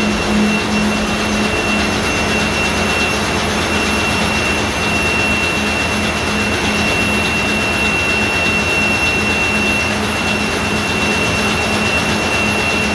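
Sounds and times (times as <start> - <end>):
ship diesel engine running: 0.0 - 12.9.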